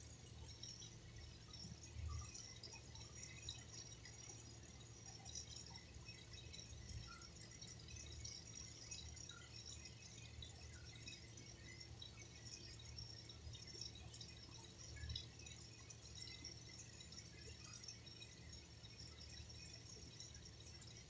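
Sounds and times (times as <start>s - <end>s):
faint water dripping: 0.0s - 21.0s.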